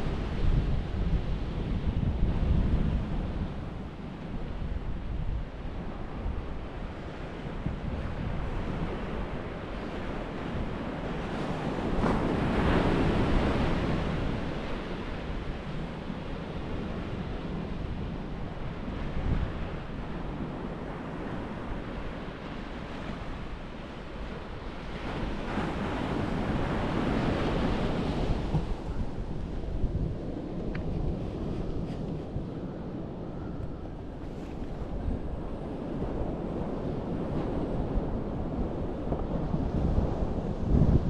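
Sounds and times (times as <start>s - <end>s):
wind rumbling on microphone: 0.0s - 41.0s.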